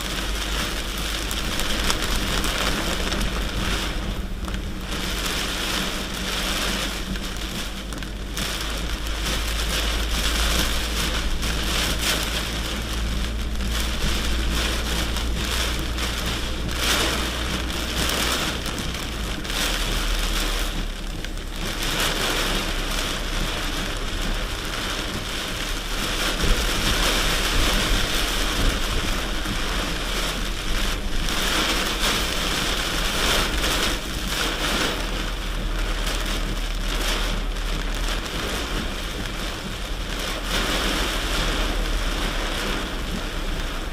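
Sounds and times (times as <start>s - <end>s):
rain on a truck: 0.0s - 43.9s
truck engine running: 0.0s - 43.9s.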